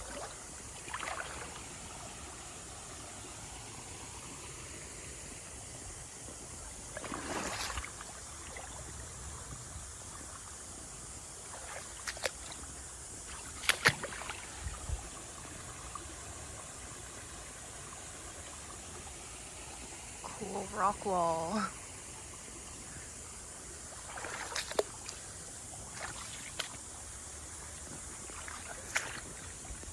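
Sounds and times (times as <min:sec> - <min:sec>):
creek trickling: 0:00.0 - 0:29.9.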